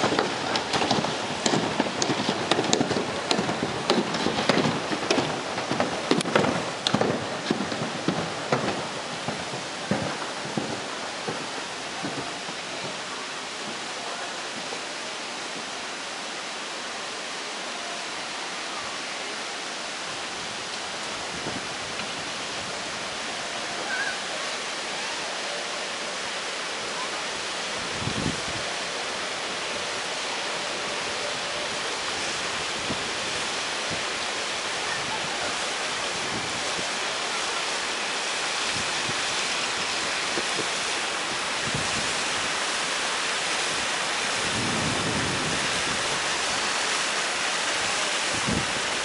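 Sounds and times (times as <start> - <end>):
wind gusts buffeting microphone: 0.0 - 13.9, 19.9 - 24.8, 27.2 - 49.0.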